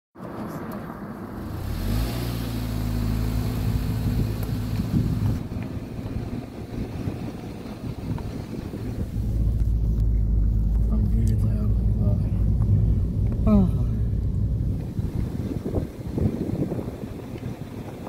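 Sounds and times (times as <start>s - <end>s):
road and wind noise: 0.2s - 18.0s
car engine running: 0.4s - 18.0s.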